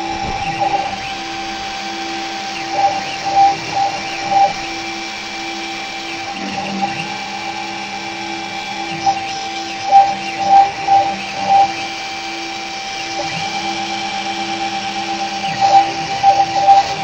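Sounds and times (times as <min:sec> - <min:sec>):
engraving machine whirring: 0:00.0 - 0:17.0.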